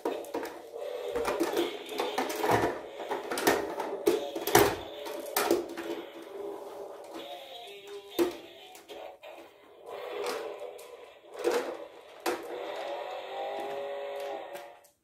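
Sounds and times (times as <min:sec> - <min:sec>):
plastic toys clicking and clattering: 0:00.0 - 0:15.0.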